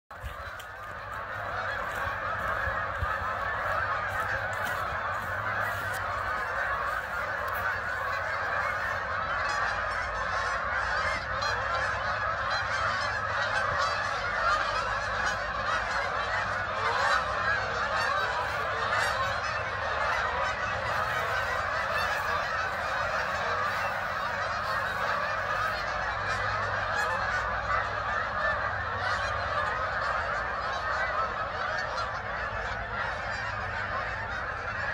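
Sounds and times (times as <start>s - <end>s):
geese honking: 0.1s - 34.9s.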